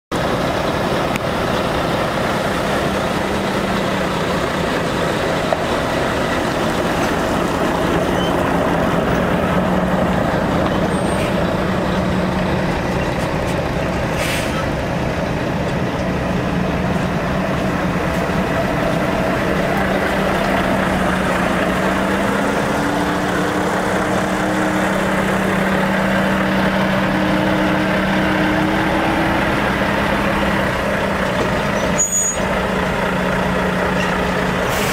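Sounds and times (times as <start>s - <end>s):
diesel truck engine humming: 0.1s - 34.9s.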